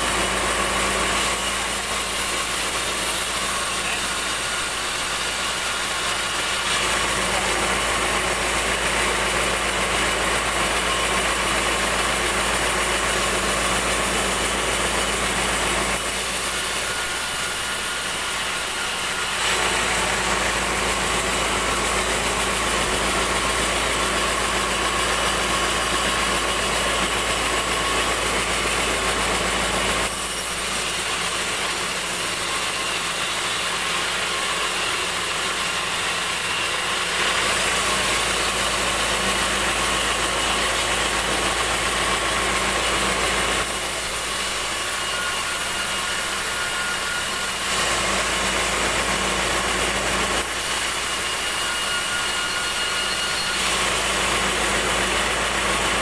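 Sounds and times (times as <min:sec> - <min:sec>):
sawmill machine drone: 0:00.0 - 0:56.0.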